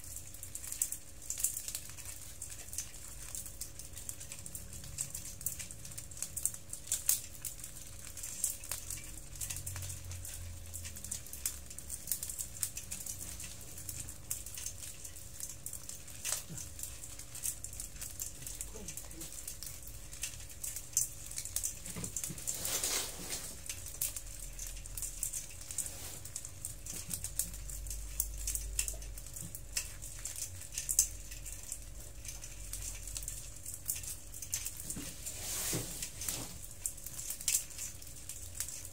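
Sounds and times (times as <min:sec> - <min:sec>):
crab shells clicking and rattling: 0:00.0 - 0:22.6, 0:23.4 - 0:35.0, 0:36.0 - 0:38.9.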